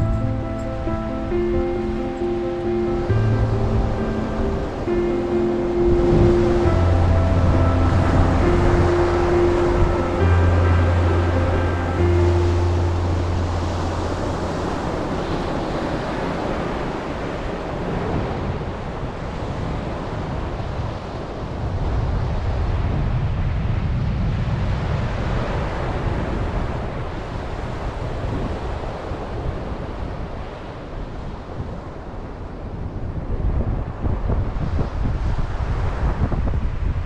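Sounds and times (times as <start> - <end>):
ocean surf on sand beach: 0.0 - 37.0
wind buffeting microphone: 0.0 - 37.0.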